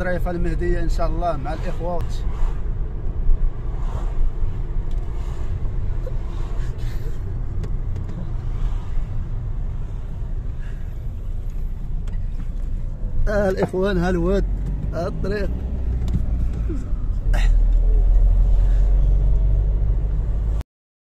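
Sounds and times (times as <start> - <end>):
car engine and tyres rumbling: 0.0 - 20.6.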